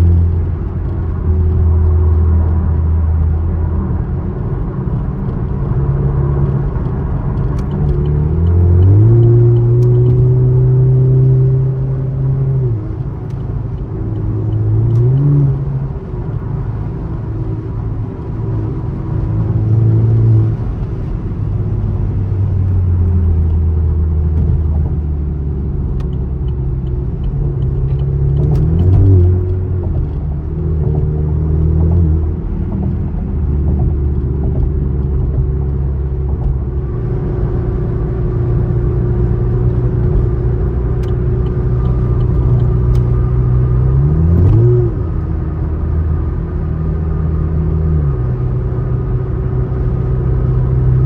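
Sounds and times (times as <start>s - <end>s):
car engine accelerating: 0.0s - 51.0s
road noise: 0.0s - 51.0s.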